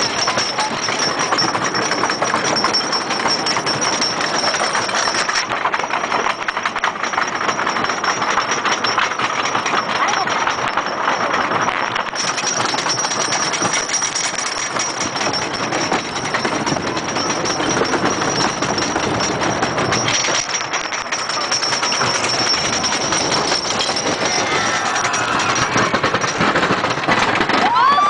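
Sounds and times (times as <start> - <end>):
roller coaster wheels rattling: 0.0 - 28.0.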